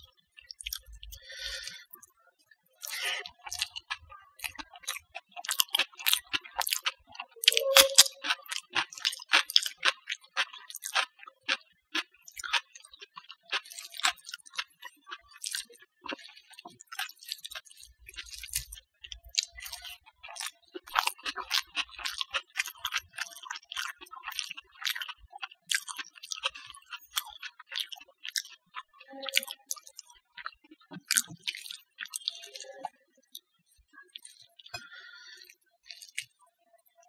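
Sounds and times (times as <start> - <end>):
chewing: 0.0 - 2.1, 2.8 - 36.4
fingers squishing food: 2.8 - 32.6.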